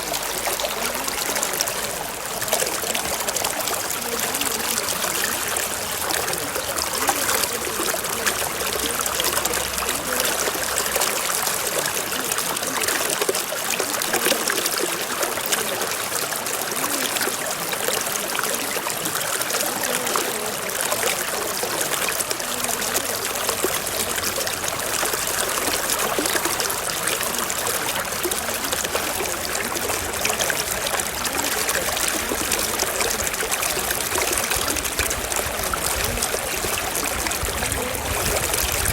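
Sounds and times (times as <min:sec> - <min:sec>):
running water trickling: 0:00.0 - 0:38.9.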